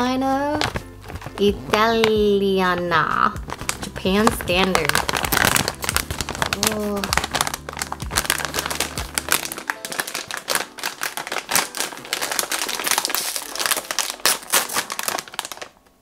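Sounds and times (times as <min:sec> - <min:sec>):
plastic bag crinkling: 0:00.5 - 0:16.0.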